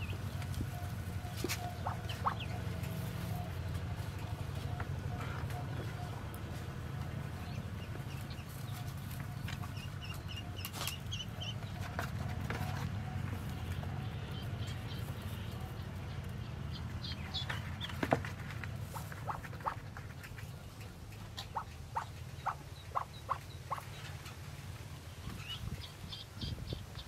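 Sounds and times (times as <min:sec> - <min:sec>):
ducklings peeping: 0:00.0 - 0:27.0.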